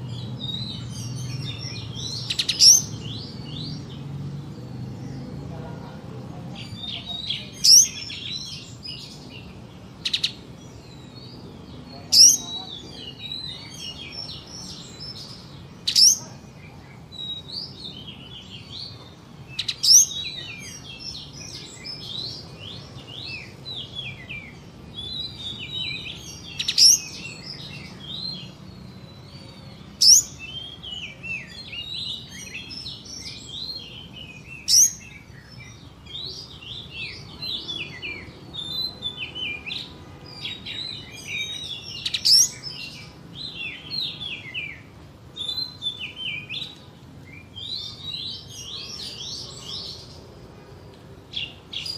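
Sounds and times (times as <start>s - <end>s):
songbird chattering and warbling: 0.0s - 50.4s.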